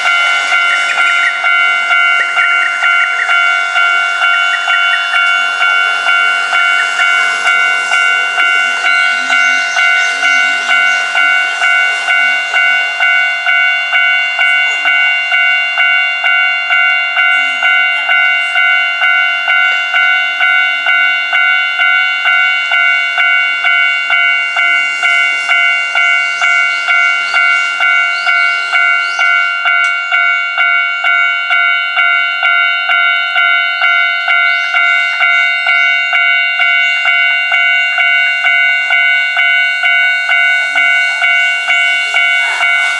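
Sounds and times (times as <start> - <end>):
level crossing warning bell: 0.0 - 42.9
train wheels rushing on rails: 0.0 - 42.9.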